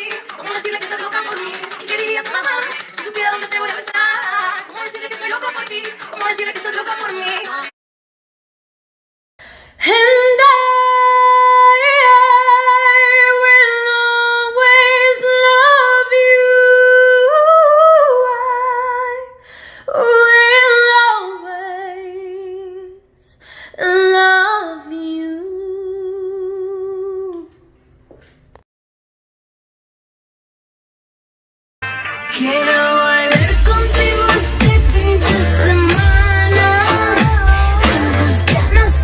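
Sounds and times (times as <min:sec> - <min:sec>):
woman singing with vibrato: 0:00.0 - 0:07.7, 0:09.8 - 0:23.0, 0:23.8 - 0:27.6, 0:32.3 - 0:39.0.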